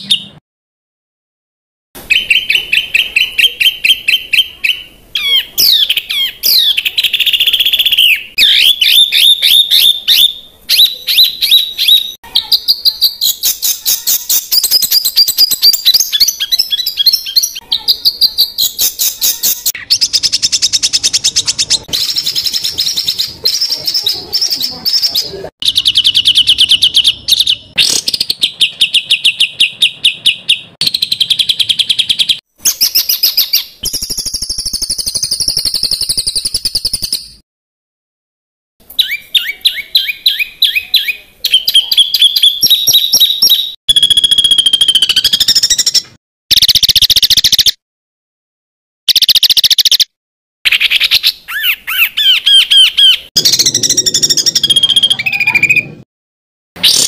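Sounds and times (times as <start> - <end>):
songbird harsh chirps and trills: 2.0 - 37.4, 38.8 - 47.8, 50.7 - 56.0.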